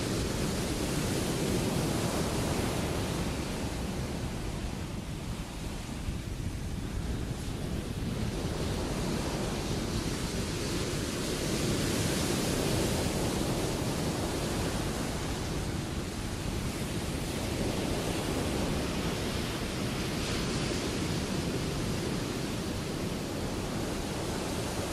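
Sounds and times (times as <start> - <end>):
ocean waves breaking: 0.0 - 24.9.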